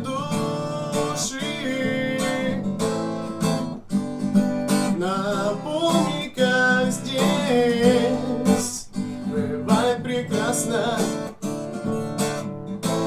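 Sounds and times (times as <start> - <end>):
man singing: 0.0 - 3.3, 4.7 - 13.0
acoustic guitar strumming: 0.0 - 13.0.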